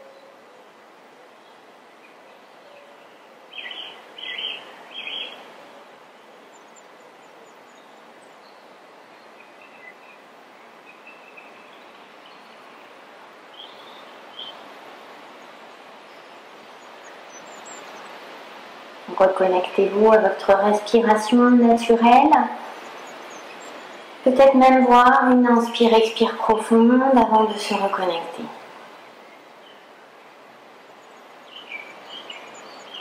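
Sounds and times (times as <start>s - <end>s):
faint steady hiss: 0.0s - 33.0s
small birds chirping: 1.4s - 5.5s, 6.1s - 18.7s, 19.5s - 26.2s, 29.2s - 33.0s.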